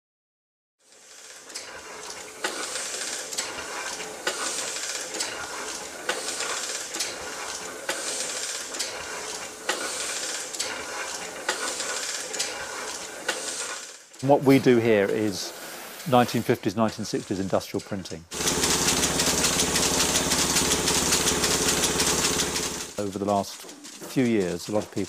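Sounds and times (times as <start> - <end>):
printing press swishing hiss: 0.9 - 25.0
printing press clacking: 1.2 - 15.4, 16.1 - 25.0.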